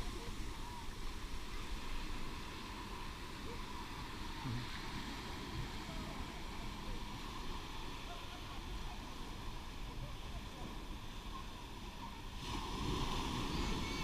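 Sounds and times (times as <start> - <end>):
faint voices: 0.0 - 14.0
surf washing: 0.0 - 14.0.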